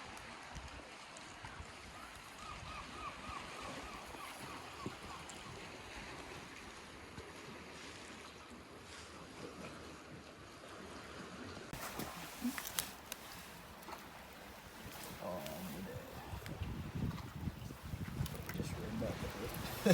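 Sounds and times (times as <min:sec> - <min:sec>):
waves at the shore: 0:00.0 - 0:19.9
wind: 0:00.0 - 0:19.9.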